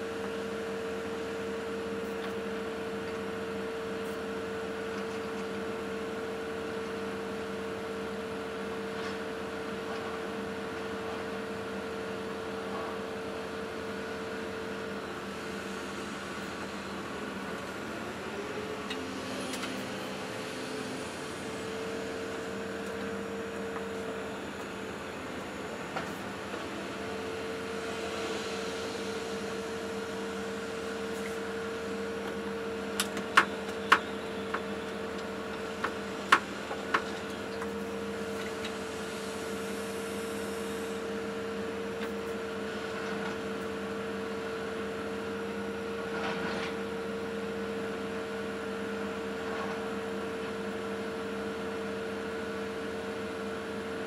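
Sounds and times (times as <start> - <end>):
excavator engine humming: 0.0 - 54.0.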